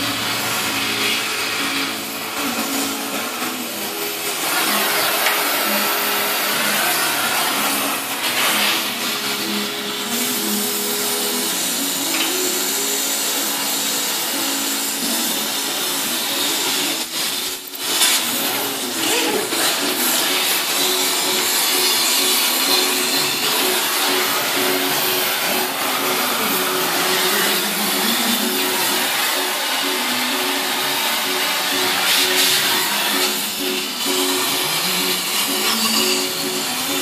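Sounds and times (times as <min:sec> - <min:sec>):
cutting torch hissing: 0:00.0 - 0:37.0.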